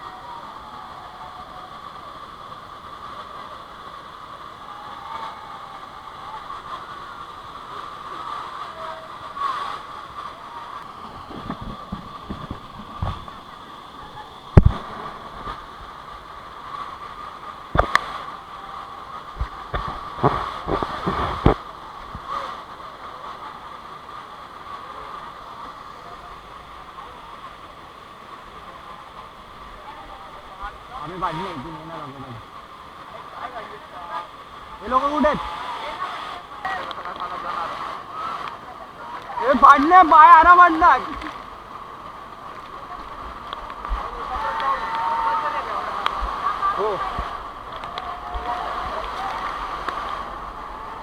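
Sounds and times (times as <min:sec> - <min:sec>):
rushing stream water: 0:00.0 - 0:51.0.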